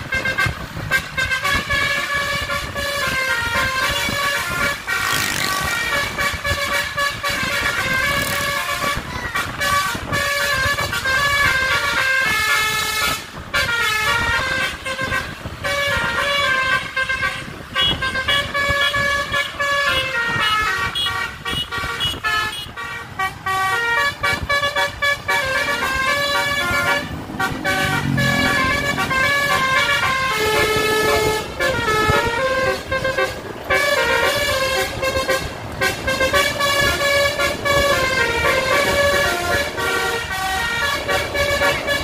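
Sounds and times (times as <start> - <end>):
bus engine: 0.0 - 42.0
musical air horn playing a tune: 0.0 - 42.0
road noise: 0.0 - 42.0.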